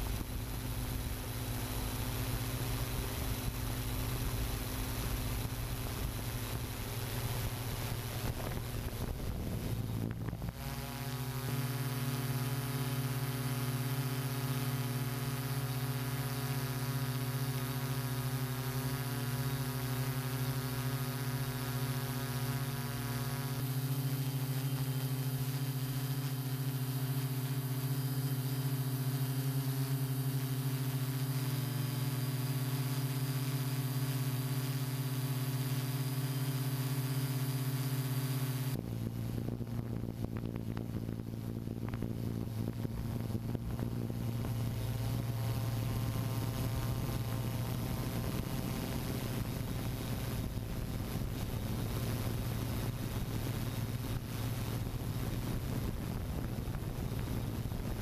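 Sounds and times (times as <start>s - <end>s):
drone propellers whirring: 0.0s - 58.0s.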